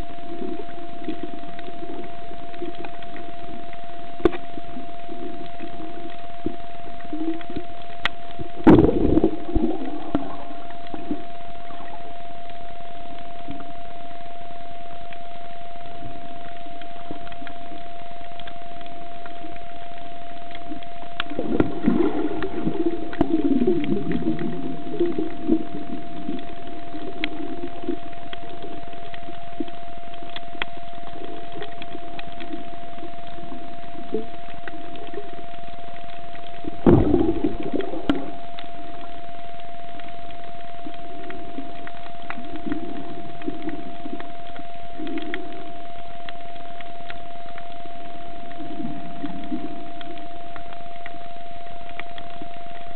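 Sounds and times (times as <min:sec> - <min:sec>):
low bubbling and gurgling: 0:00.0 - 0:52.9
rush of water: 0:00.0 - 0:52.9
thin whine: 0:00.0 - 0:52.9
underwater clicks: 0:00.0 - 0:52.9.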